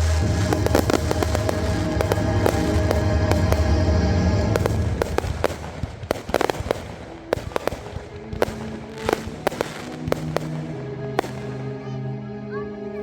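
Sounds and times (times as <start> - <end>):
fireworks banging and popping: 0.0 - 11.8
music with held notes: 0.0 - 13.0.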